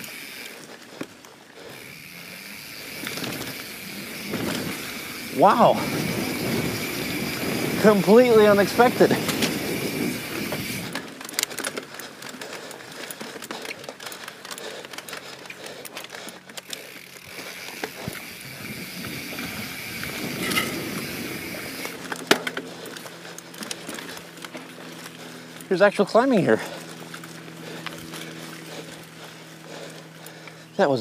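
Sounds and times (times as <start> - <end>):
bike clicks and rattles: 0.0 - 31.0
bike tyres on dirt: 0.0 - 31.0.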